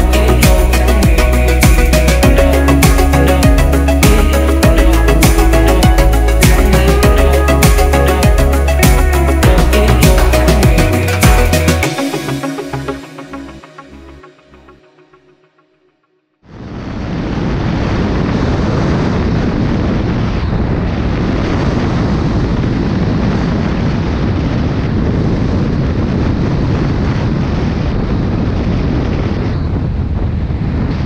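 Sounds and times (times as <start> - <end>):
wind rush over microphone: 0.0 - 13.0, 16.5 - 31.0.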